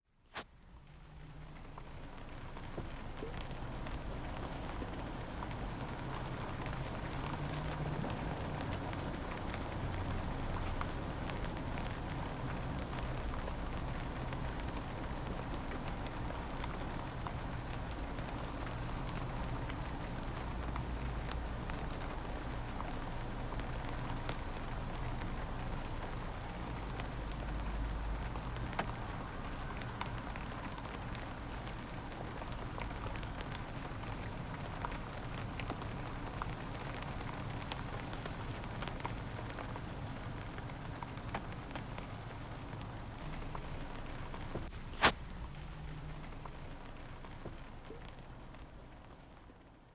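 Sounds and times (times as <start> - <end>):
low fire rumble: 0.2 - 49.9
wood fire crackling and popping: 0.3 - 49.8.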